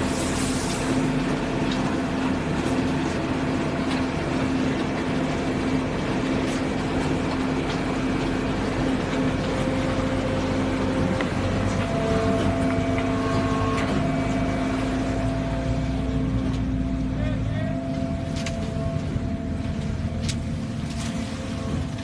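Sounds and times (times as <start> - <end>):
concrete mixer pump humming: 0.0 - 22.0.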